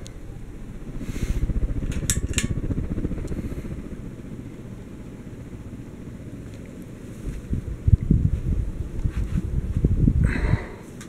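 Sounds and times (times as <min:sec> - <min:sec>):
ceiling fan whooshing: 0:00.0 - 0:11.0.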